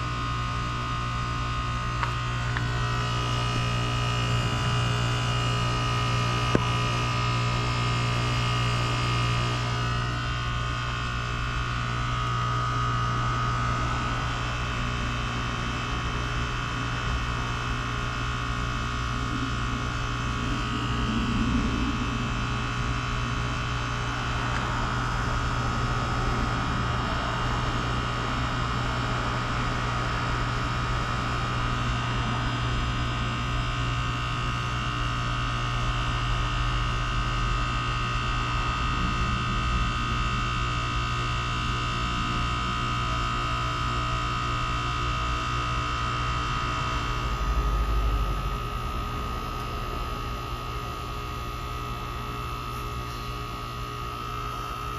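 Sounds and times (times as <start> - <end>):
heat pump humming: 0.0 - 54.9.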